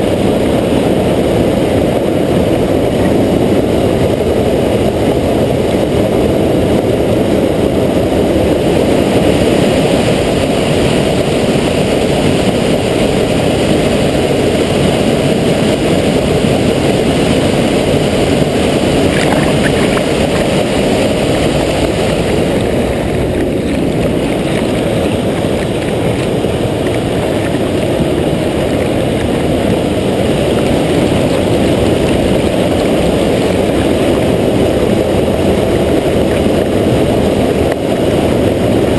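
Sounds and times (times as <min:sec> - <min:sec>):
muffled water rushing over weir: 0:00.0 - 0:38.9.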